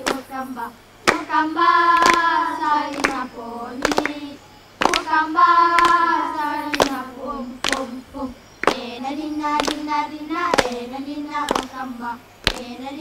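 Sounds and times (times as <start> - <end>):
hands clapping: 0.0 - 0.4, 1.0 - 8.0, 8.6 - 12.8
children singing: 0.0 - 13.0.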